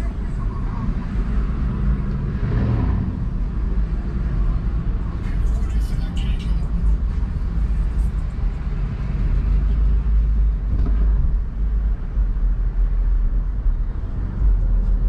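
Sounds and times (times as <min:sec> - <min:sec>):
car interior road and engine rumble: 0:00.0 - 0:15.0.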